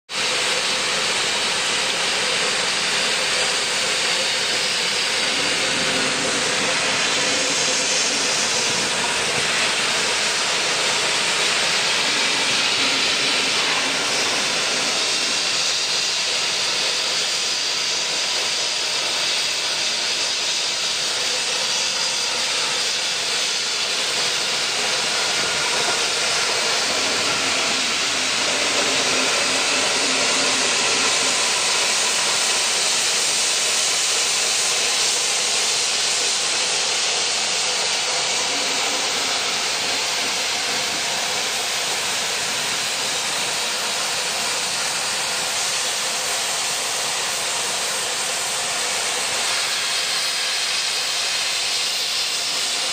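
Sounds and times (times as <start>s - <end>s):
steam hissing from locomotive: 0.1s - 52.9s.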